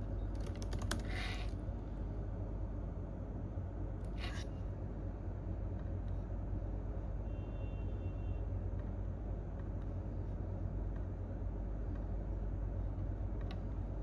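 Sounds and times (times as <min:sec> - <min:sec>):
low rumble of office room tone: 0:00.0 - 0:14.0.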